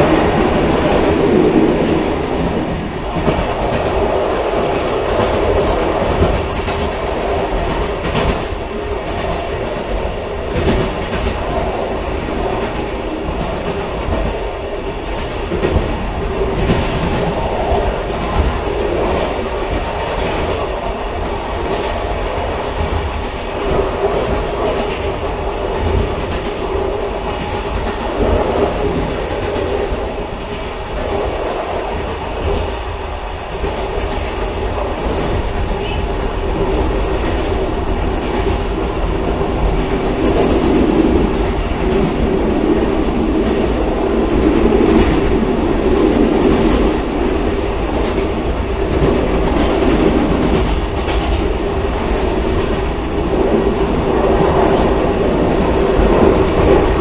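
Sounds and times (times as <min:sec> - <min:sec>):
faint clicks from rails: 0:00.0 - 0:57.0
railcar rumbling on track: 0:00.0 - 0:57.0.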